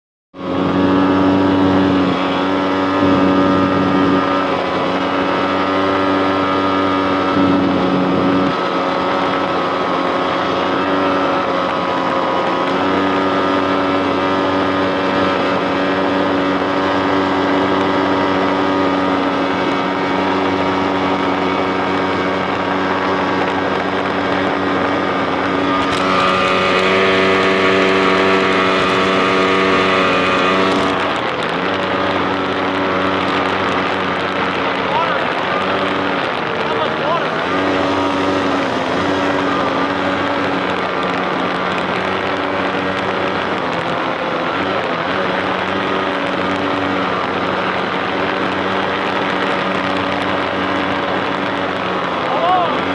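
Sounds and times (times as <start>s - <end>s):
outboard boat engine running: 0.4s - 52.9s.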